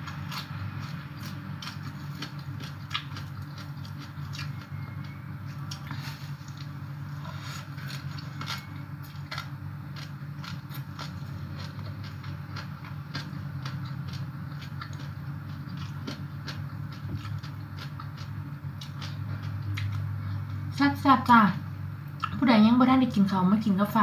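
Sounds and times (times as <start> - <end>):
person chewing food: 0.0 - 20.6, 22.2 - 22.4
steady low hum: 0.0 - 24.0.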